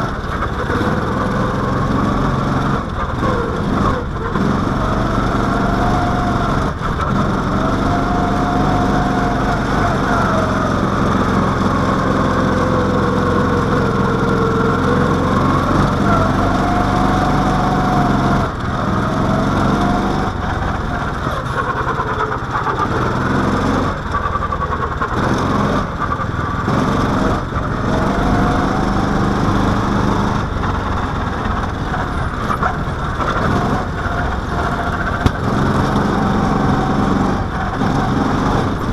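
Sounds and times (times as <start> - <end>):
small engine running under load: 0.0 - 38.9.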